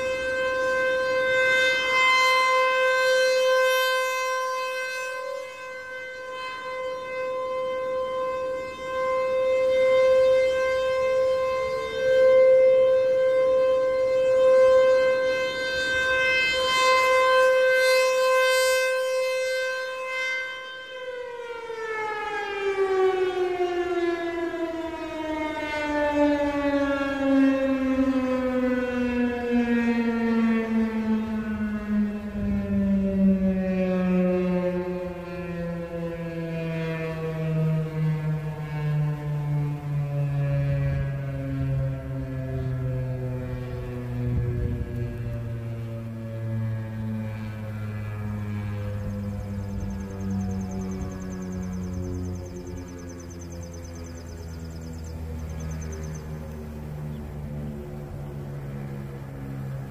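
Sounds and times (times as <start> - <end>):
rotating warning siren: 0.0 - 59.9.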